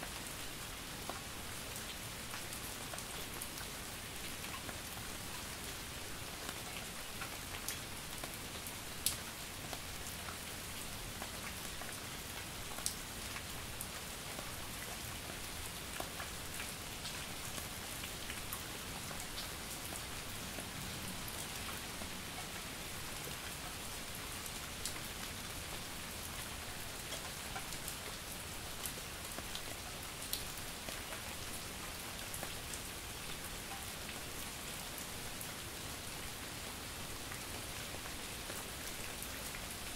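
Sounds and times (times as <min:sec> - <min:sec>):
raindrops ticking on a surface: 0:00.1 - 0:39.9.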